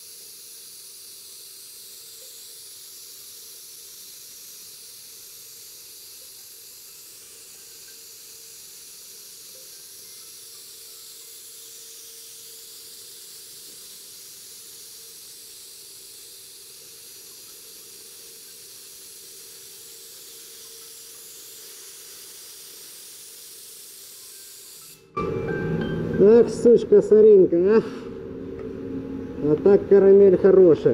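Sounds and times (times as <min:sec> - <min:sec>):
spray gun hissing: 0:00.0 - 0:25.1.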